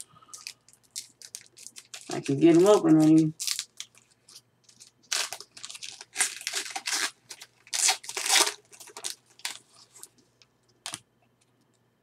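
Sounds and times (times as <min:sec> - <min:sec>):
plastic wrapper tearing and crinkling: 0:00.0 - 0:10.1.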